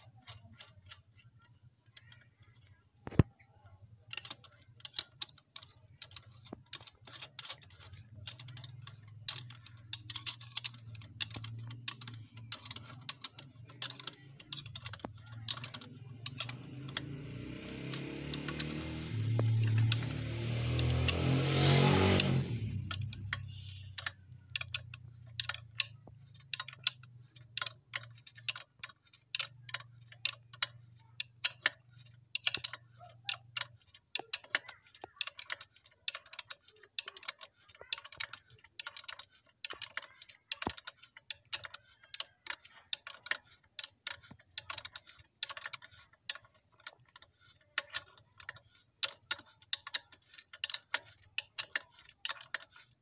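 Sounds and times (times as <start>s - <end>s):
ratchet wrench clicking: 0.0s - 3.2s, 3.9s - 53.0s.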